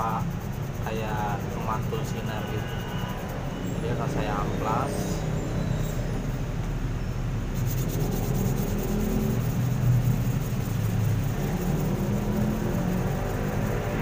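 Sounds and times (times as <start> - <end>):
metal scratching on sandpaper: 0.0 - 6.1, 7.5 - 14.0.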